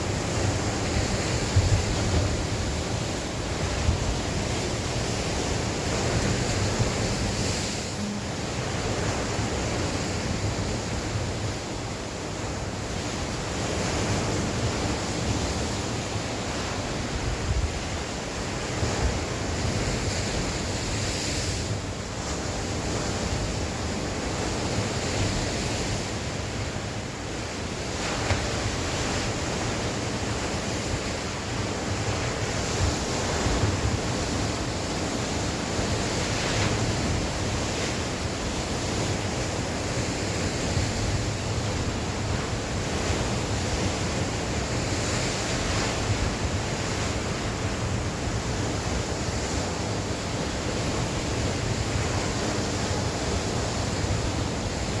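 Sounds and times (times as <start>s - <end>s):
sea waves breaking on shore: 0.0s - 55.0s
wind gusting on microphone: 0.0s - 55.0s.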